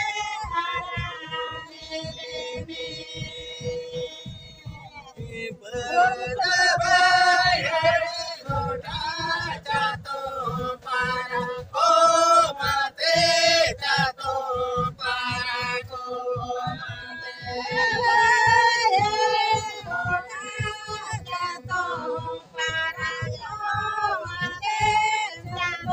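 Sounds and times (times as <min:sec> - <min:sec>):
woman and men singing folk song: 0:00.0 - 0:25.9.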